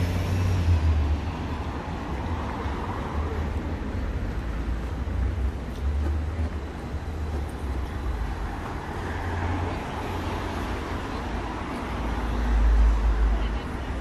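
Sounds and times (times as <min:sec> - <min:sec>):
road noise hiss: 0:00.0 - 0:14.0
rumble of vehicles: 0:00.0 - 0:14.0.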